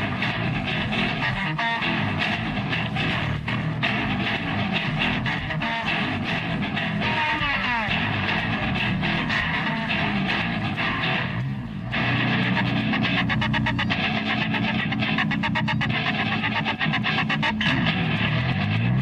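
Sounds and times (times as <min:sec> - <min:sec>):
distorted electric guitar: 0:00.0 - 0:19.0
slapped electric bass: 0:00.0 - 0:19.0.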